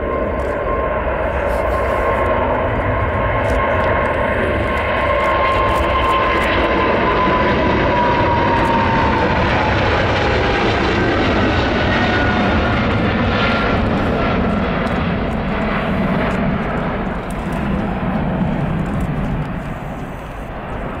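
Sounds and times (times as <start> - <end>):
jet engines roaring at takeoff: 0.0 - 21.0.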